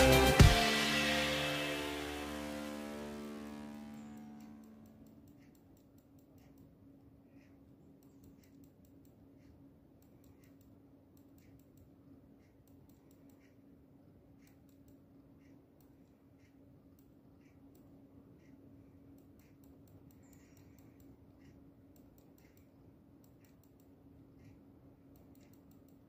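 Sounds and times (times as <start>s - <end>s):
low steady hum: 0.0s - 26.0s
faint irregular clicking: 4.0s - 26.0s.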